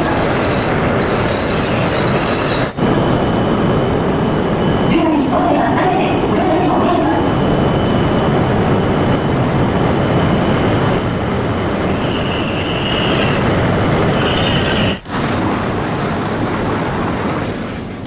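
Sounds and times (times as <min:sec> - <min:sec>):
high whine: 0:00.0 - 0:17.3
train rolling rumble: 0:00.0 - 0:18.0.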